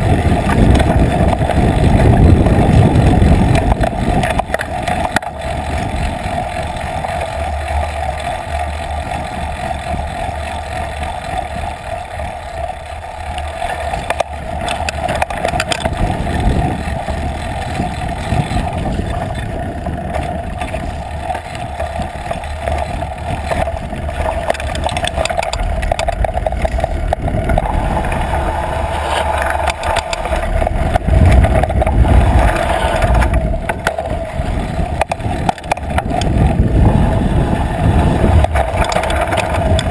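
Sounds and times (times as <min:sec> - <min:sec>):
bike rattling over bumps: 0:00.0 - 0:39.9
steady hum: 0:00.0 - 0:39.9.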